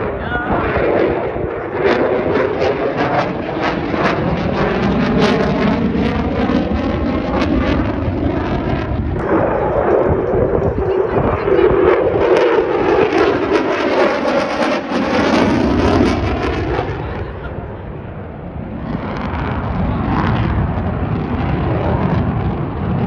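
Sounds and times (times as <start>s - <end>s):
jet engine flying past: 0.0s - 23.0s.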